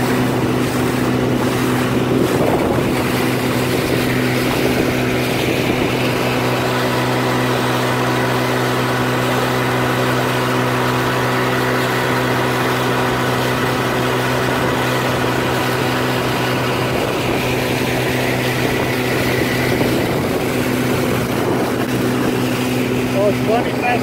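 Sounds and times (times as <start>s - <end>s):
outboard motor running: 0.0s - 24.0s
water rushing past hull: 0.0s - 24.0s.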